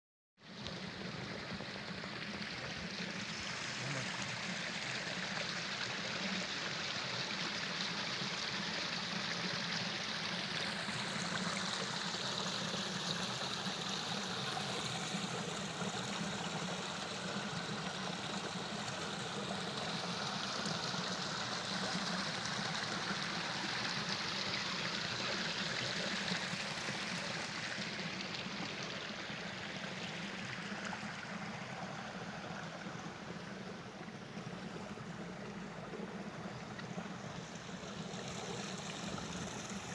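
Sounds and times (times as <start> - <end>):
stream water rushing: 0.4 - 39.9.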